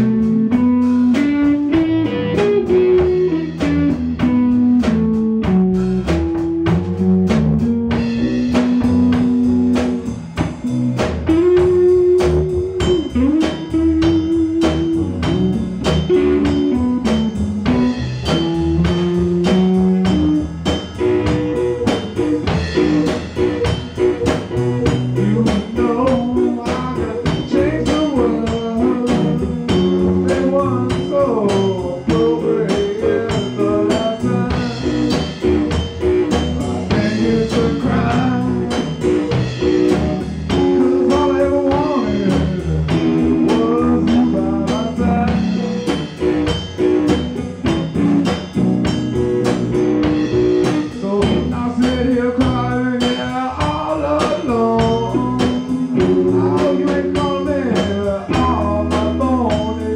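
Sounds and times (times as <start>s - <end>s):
drum kit beat: 0.0s - 59.9s
electric guitars: 0.0s - 59.9s.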